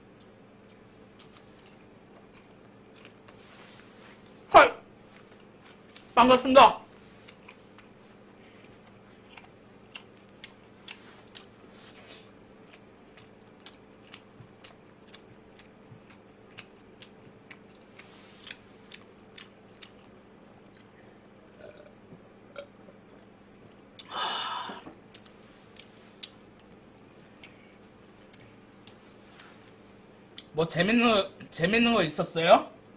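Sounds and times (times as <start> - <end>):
chewing crispy fried chicken: 0.0 - 4.4, 6.9 - 24.1, 25.0 - 30.5.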